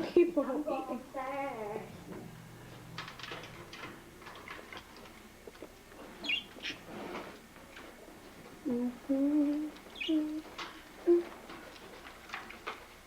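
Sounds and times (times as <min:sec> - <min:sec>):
birds rustling and fluttering: 0:01.8 - 0:13.0.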